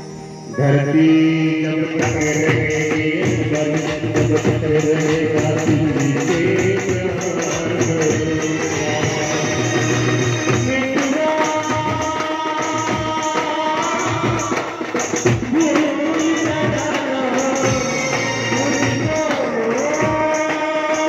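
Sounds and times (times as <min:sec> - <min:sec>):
steady drum beat: 0:01.8 - 0:21.0.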